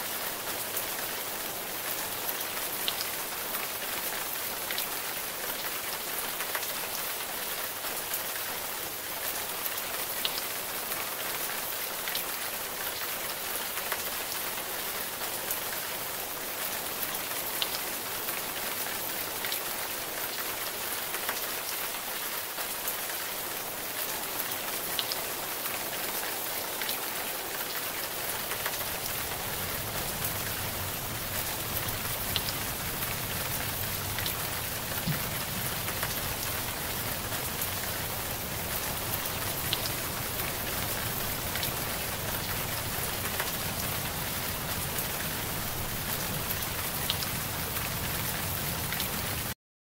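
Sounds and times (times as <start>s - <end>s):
rain hiss: 0.0s - 49.6s.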